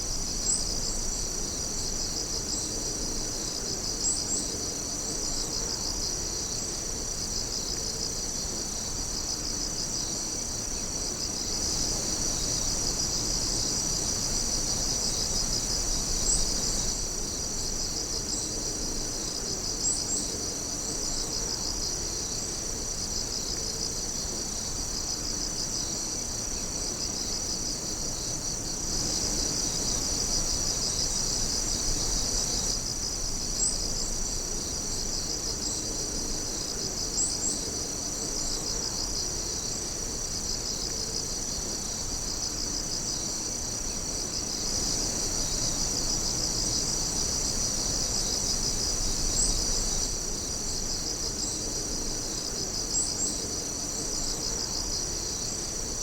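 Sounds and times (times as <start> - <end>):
crickets and insects chirping: 0.0 - 56.0.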